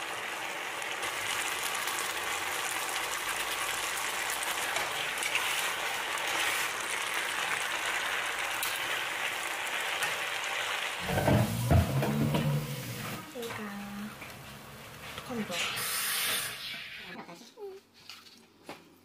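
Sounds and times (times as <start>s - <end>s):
food sizzling in a frying pan: 0.0s - 17.1s.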